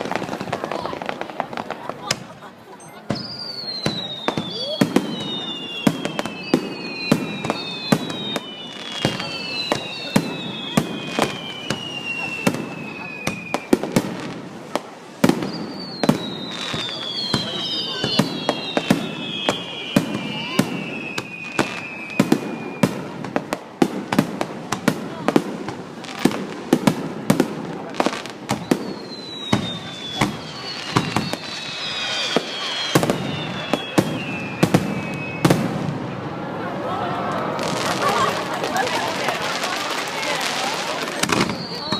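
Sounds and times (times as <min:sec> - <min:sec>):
fireworks bangs: 0:00.0 - 0:41.9
fireworks whistles falling in pitch: 0:02.8 - 0:25.5, 0:26.1 - 0:36.2, 0:37.6 - 0:41.9.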